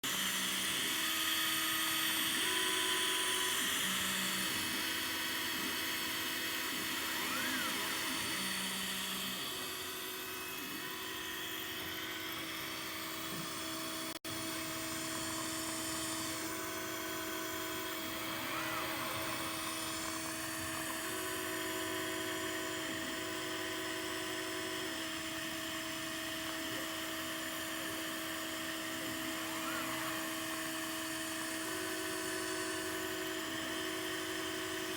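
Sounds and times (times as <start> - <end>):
cooling fan whirring: 0.0 - 34.9
stepper motors whining: 0.1 - 34.9.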